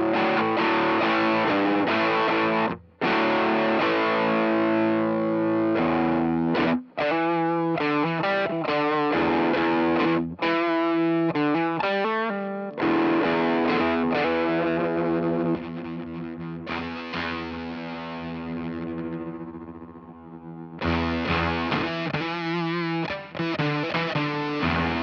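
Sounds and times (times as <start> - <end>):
fuzzed electric guitar: 0.0 - 25.0.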